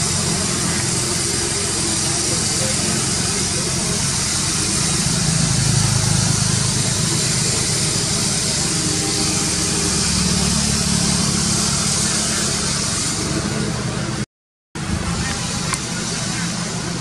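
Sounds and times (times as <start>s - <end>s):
engine hum: 0.0s - 14.2s, 14.8s - 17.0s.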